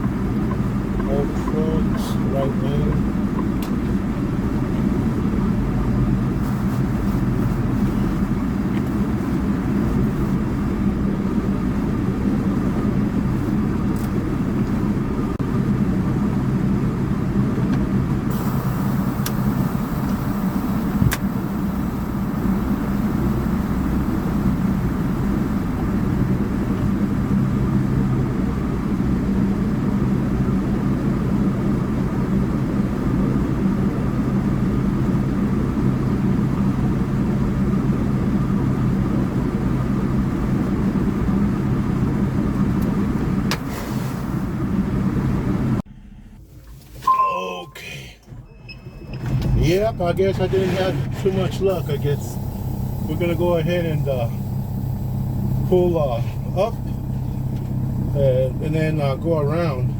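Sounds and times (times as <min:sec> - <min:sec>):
diesel truck engine running: 0:00.0 - 0:46.7, 0:47.7 - 0:59.9.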